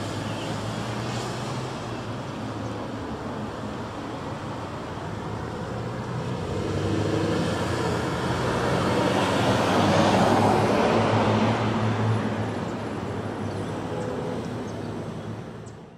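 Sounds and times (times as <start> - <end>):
low hum of cars: 0.0 - 15.9.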